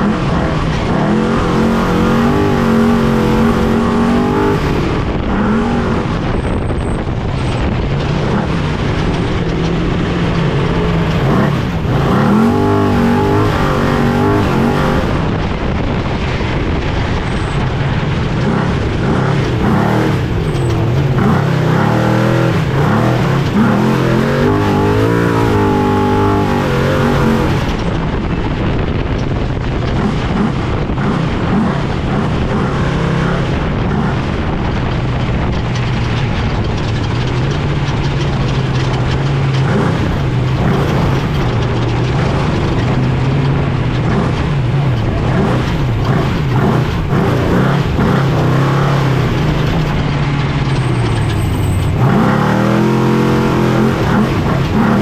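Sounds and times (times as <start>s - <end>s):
steady rushing noise: 0.0s - 55.0s
truck engine revving hard: 0.0s - 55.0s.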